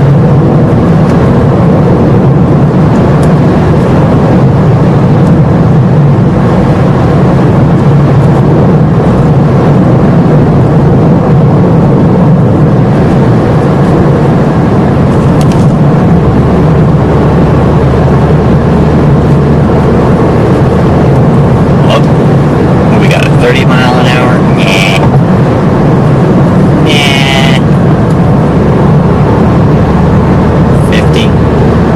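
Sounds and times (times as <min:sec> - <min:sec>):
car engine and road noise: 0:00.0 - 0:31.9
deep low hum: 0:00.0 - 0:31.9.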